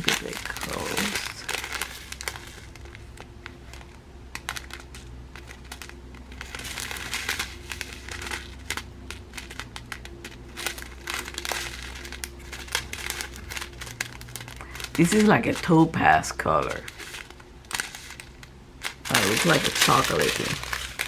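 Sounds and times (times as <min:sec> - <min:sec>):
faint low hum: 0:00.0 - 0:21.0
plastic packets crinkling: 0:00.0 - 0:21.0.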